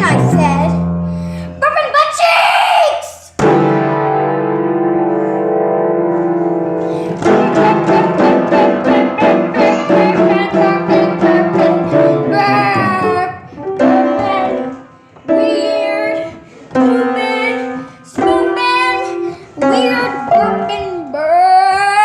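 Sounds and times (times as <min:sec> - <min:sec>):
piano playing: 0:00.0 - 0:01.7, 0:03.4 - 0:22.0.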